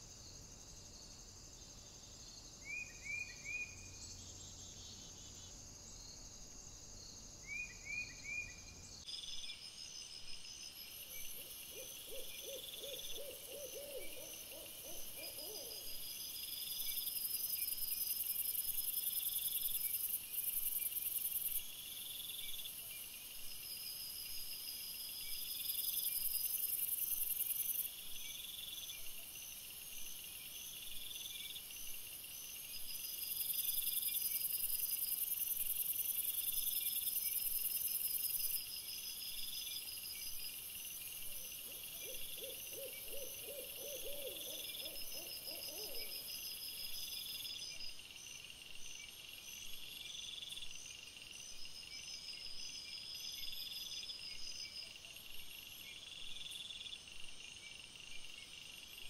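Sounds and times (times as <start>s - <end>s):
night insects chirping: 0.0s - 59.0s.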